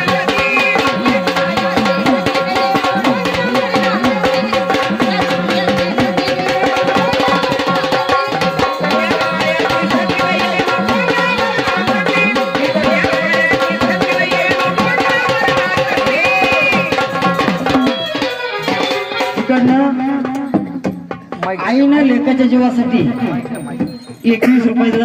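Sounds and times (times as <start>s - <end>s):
fast hand drumming: 0.0s - 25.0s.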